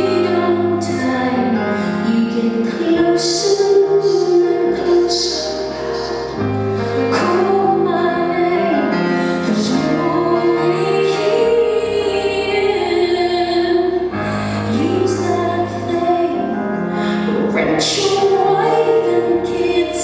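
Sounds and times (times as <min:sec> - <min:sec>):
woman singing with vibrato: 0:00.0 - 0:06.3, 0:07.0 - 0:20.0
piano chords: 0:00.0 - 0:20.0.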